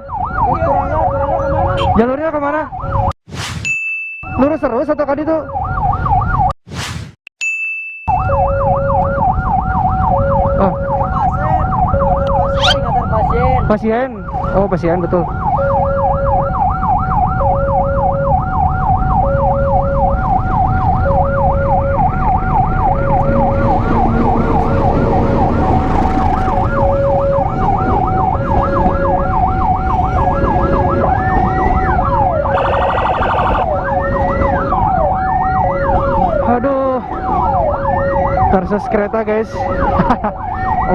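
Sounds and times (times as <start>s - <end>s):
rumble of engines and traffic: 0.0s - 2.9s, 8.1s - 40.9s
siren yelp: 0.0s - 3.1s, 4.3s - 6.5s, 8.1s - 40.9s
two-tone hi-lo siren: 0.0s - 3.1s, 4.2s - 6.5s, 8.1s - 40.9s.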